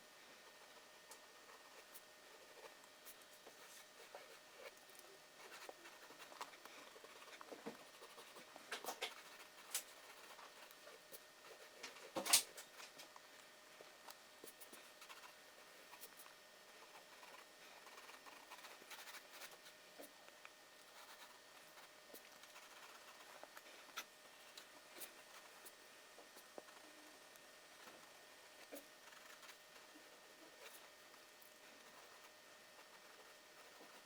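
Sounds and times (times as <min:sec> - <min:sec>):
pencil scratching on paper: 0:01.4 - 0:12.8, 0:14.4 - 0:20.1, 0:20.8 - 0:27.0, 0:27.7 - 0:34.0.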